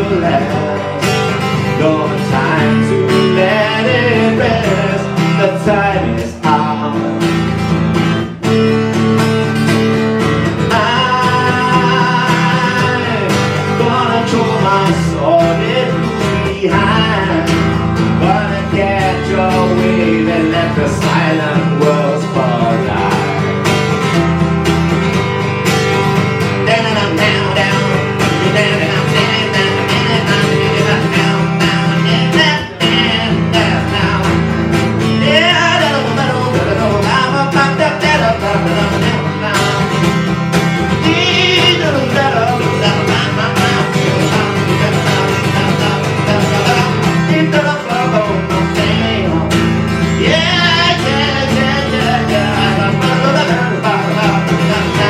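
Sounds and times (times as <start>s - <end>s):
live guitar band music: 0.0s - 55.0s.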